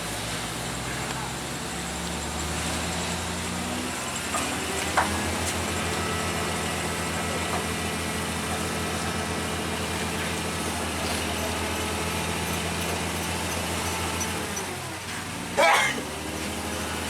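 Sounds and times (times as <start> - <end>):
heavy vehicle engine idling: 0.0 - 17.0.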